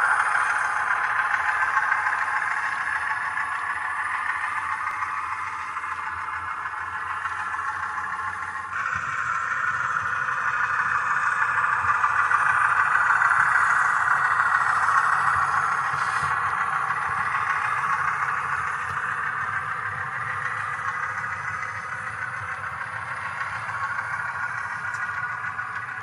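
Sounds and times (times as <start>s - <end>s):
model train hum and rattle: 0.0s - 26.0s.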